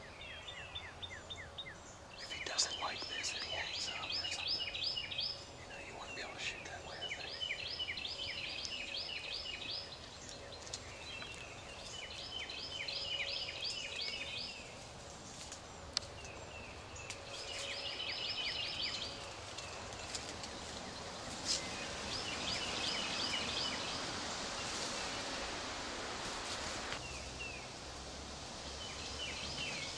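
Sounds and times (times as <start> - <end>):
hush of the woods: 0.0 - 29.8.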